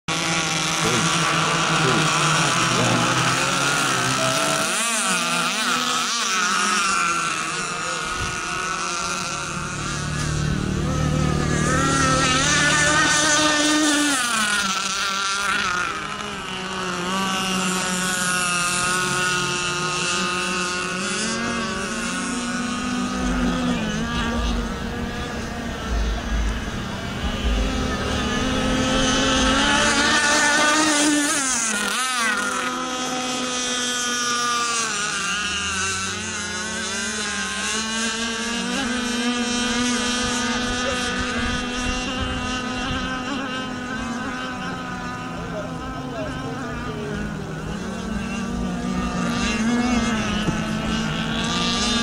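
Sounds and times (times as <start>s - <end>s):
model boat motors racing: 0.0s - 52.0s.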